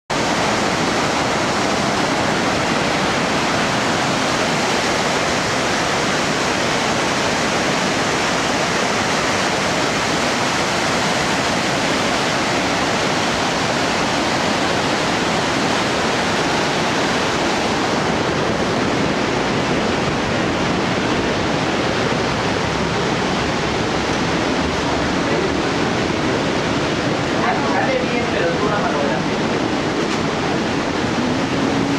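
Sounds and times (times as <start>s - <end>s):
waterfall thundering: 0.1s - 31.9s.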